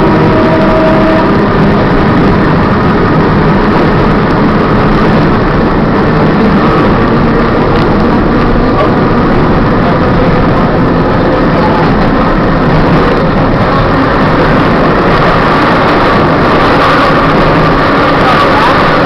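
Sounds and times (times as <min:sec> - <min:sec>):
trolley wheels rumbling on rails: 0:00.0 - 0:19.0.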